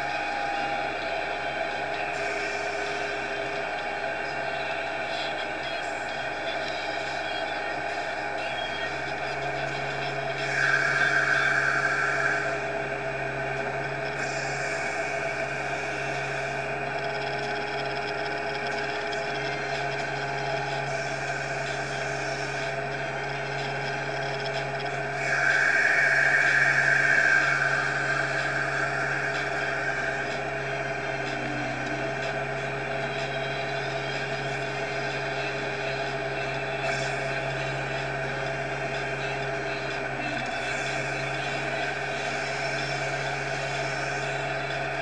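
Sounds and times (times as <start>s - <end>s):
high whine: 0.0s - 45.0s
machine drone: 0.0s - 45.0s.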